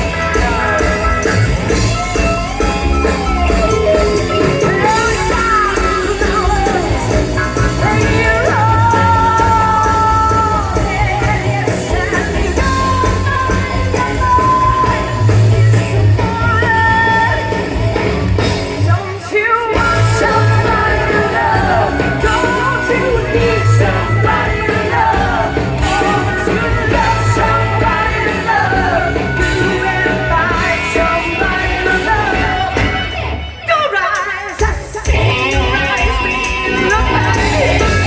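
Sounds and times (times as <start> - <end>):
amplified rock band playing: 0.0 - 38.0
person singing: 3.9 - 17.8, 18.8 - 38.0.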